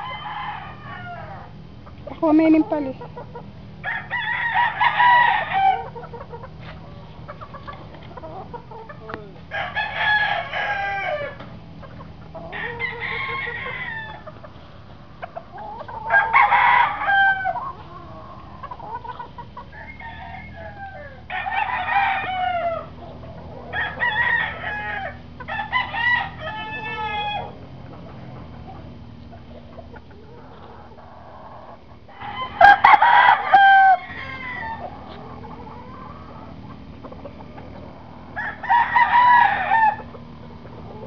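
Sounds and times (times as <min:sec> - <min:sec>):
roosters crowing: 0:00.0 - 0:41.0.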